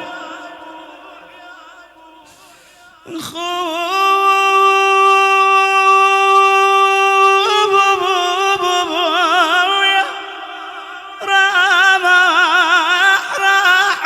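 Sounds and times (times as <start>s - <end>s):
man chanting a lament: 0.0s - 14.0s.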